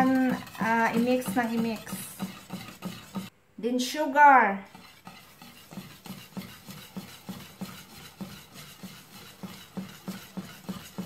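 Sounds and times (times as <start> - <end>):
whisk knocking against metal pan: 0.0 - 3.3, 4.7 - 11.0.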